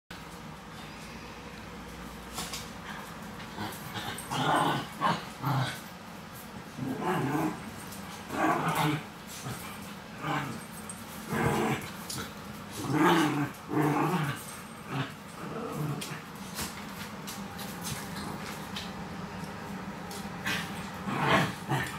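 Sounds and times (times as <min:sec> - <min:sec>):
small dogs play-growling: 0:02.0 - 0:21.9.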